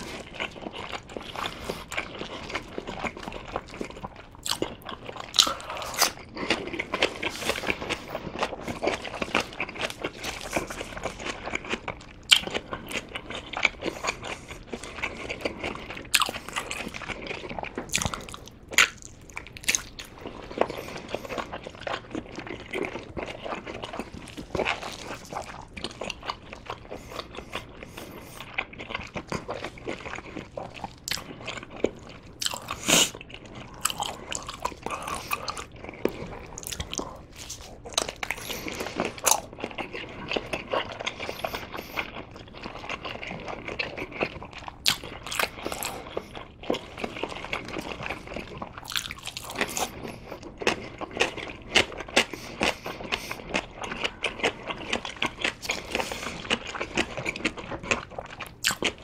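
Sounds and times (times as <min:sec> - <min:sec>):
person chewing sausage: 0:00.0 - 0:59.0.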